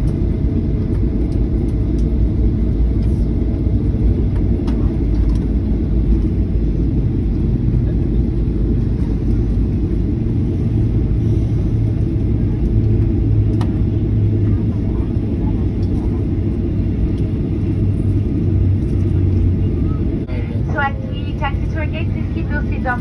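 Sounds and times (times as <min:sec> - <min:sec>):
low engine rumble: 0:00.0 - 0:23.0
low hum: 0:00.0 - 0:23.0.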